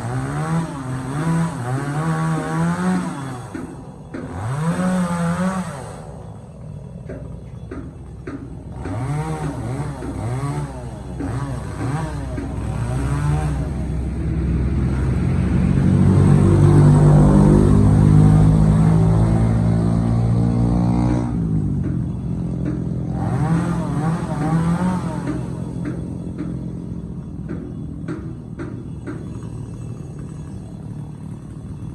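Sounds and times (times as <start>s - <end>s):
chainsaw engine revving: 0.0s - 27.4s.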